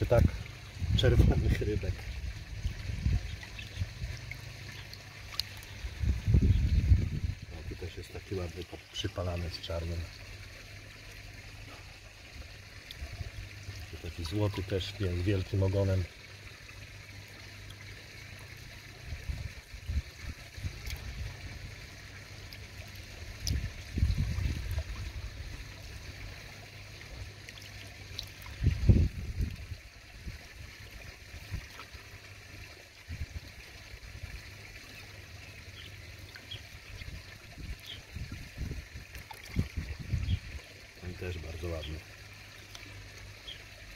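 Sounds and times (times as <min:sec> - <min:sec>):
pond water trickling: 0:00.0 - 0:43.9.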